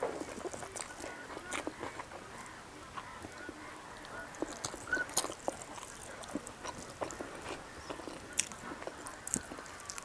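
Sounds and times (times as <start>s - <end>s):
close chewing and mouth clicks: 0.0s - 10.0s.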